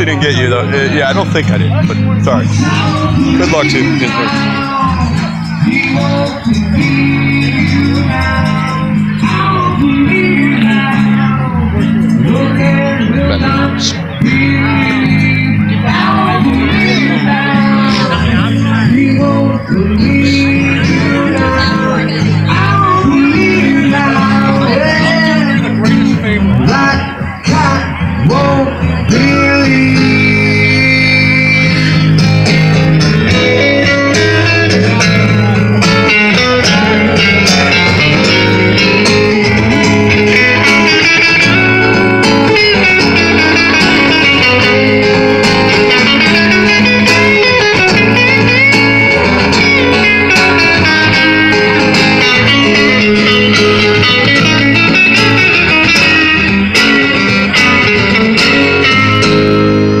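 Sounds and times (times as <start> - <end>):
acoustic guitar: 0.0 - 60.0
electric guitar: 0.0 - 60.0.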